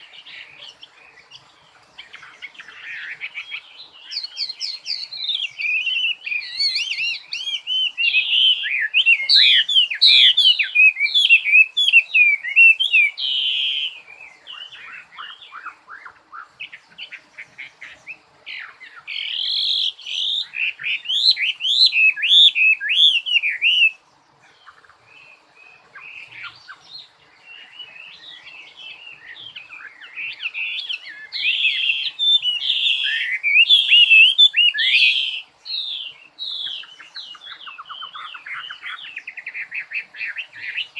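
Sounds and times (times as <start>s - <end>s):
songbird warbling: 0.0s - 40.9s.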